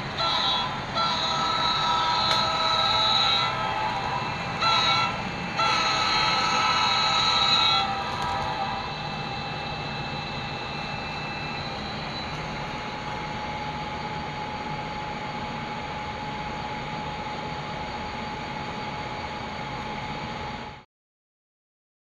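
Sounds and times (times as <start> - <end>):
high-pitched whine: 0.0 - 20.8
model train rushing hum: 0.0 - 20.8.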